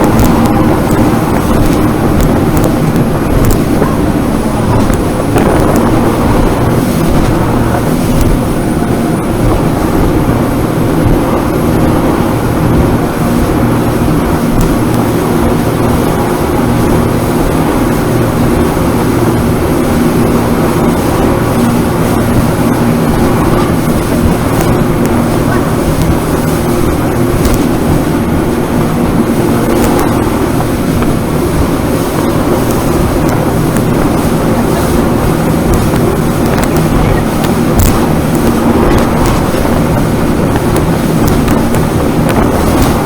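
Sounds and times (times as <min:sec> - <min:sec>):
boat engine droning: 0:00.0 - 0:43.0
rushing noise: 0:00.0 - 0:43.0.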